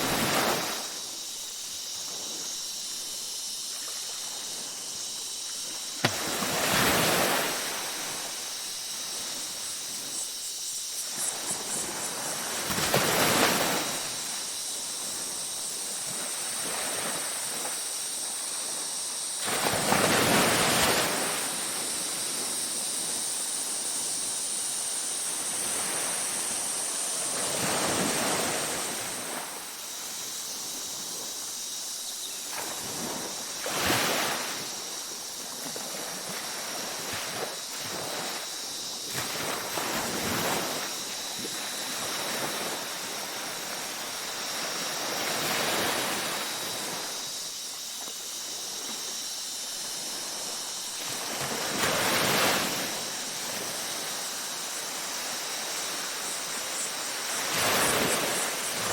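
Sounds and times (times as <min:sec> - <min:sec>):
ocean waves breaking on beach: 0:00.0 - 0:31.8, 0:32.4 - 0:58.9.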